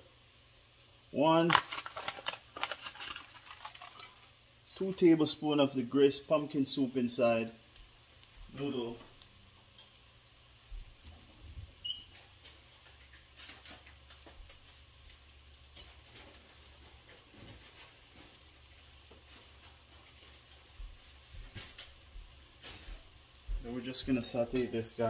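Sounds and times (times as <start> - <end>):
rice crackling in a pot: 0.0 - 25.0.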